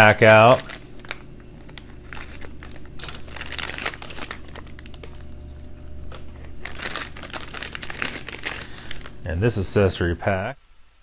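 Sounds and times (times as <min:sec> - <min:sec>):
plastic pouch crinkling: 0:00.0 - 0:09.2.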